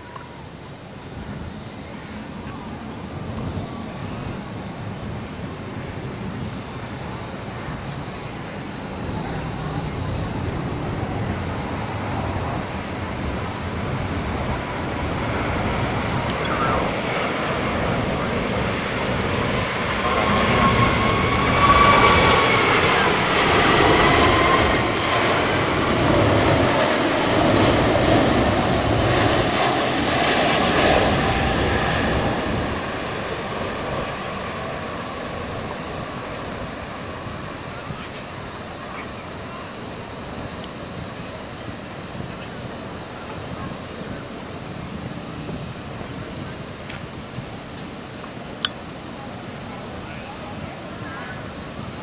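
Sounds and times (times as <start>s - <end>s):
jet engine roar overhead: 0.0s - 52.0s
jet engine whine: 0.0s - 52.0s.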